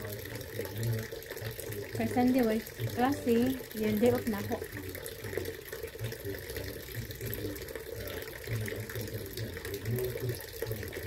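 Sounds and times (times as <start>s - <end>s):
water fountain trickling: 0.0s - 11.0s.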